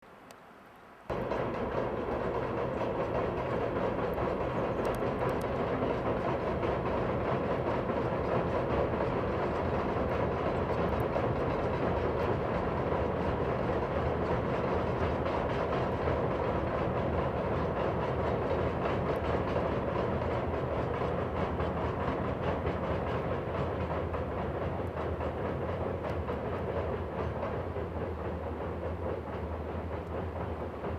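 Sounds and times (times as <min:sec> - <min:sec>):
train wheels running on rails: 0:01.1 - 0:30.9.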